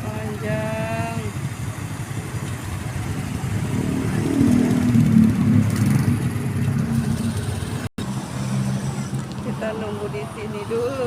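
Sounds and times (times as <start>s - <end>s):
traffic engines humming: 0.0s - 11.0s.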